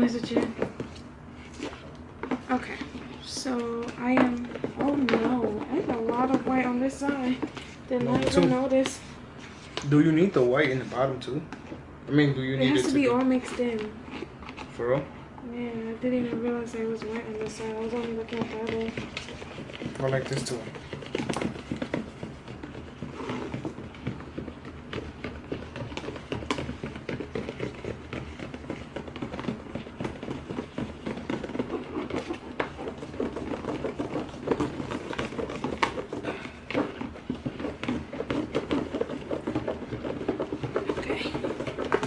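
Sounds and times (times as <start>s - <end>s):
slime being stirred in a bowl: 0.0s - 42.0s.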